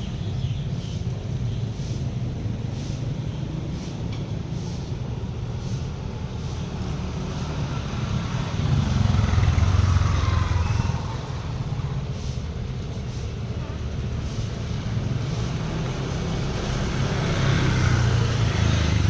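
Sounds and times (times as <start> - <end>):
passing engine: 1.8 - 19.0.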